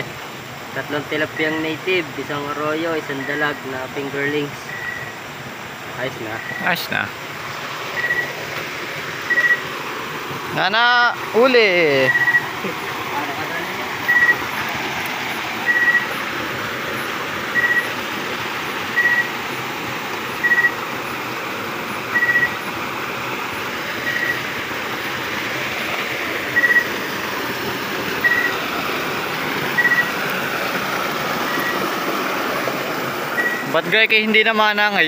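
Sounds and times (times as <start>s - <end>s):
water rushing over dam: 0.0s - 35.0s.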